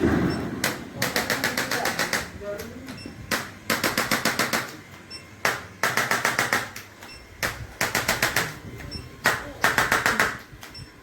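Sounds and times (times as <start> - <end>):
rapid mechanical tapping: 0.0 - 11.0.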